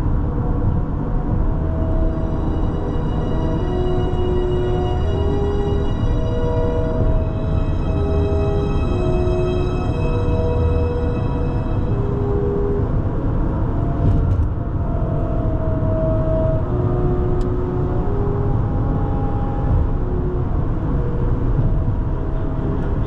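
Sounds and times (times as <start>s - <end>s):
car road noise: 0.0s - 23.0s
soft orchestral notes: 1.3s - 23.0s.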